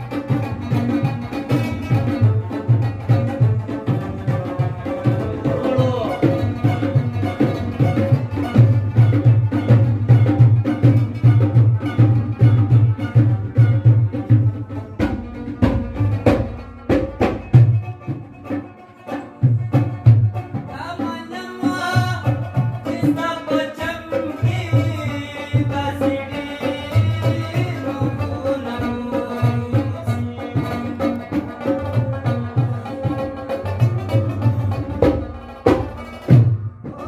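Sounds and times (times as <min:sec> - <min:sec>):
hand drum beat: 0:00.0 - 0:37.0
plucked lute melody: 0:00.0 - 0:37.0.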